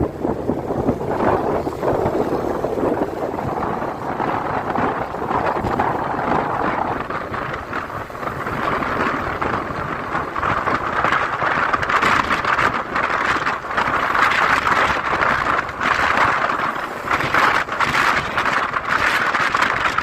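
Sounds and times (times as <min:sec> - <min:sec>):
road noise: 0:00.0 - 0:20.0
wind on microphone: 0:00.0 - 0:20.0.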